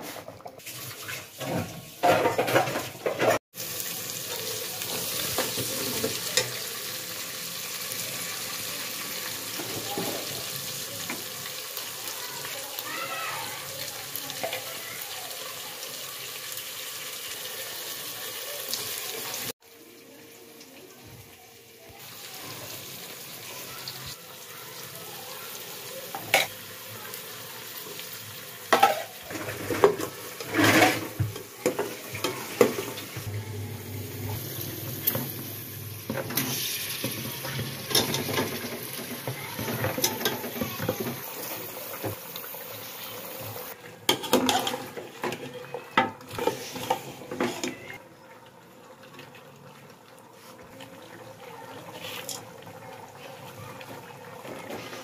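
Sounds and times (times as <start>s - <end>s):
oil and spices sizzling: 0.0s - 55.0s.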